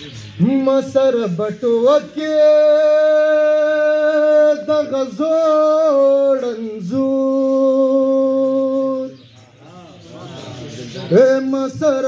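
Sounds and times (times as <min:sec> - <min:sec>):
man singing unaccompanied: 0:00.4 - 0:09.4, 0:11.1 - 0:12.0.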